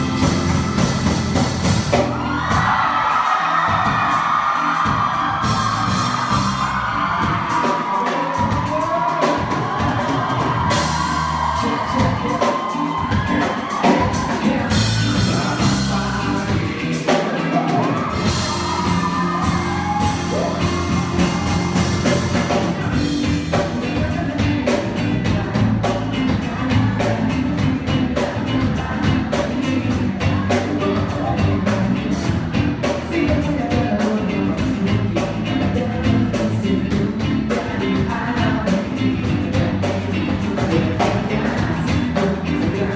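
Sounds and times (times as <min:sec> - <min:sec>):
live pop band playing: 0:00.0 - 0:42.9
person singing: 0:00.0 - 0:42.9.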